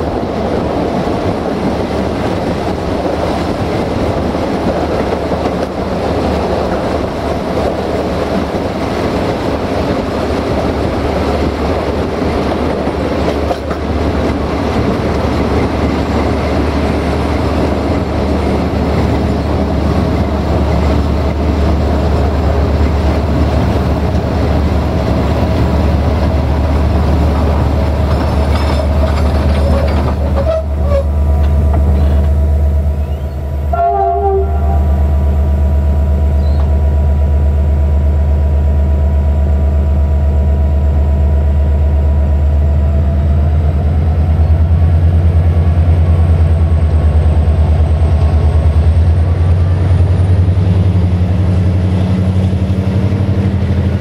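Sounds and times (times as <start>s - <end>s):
train engine humming: 0.0s - 54.0s
wheel and rail rumble: 0.0s - 54.0s.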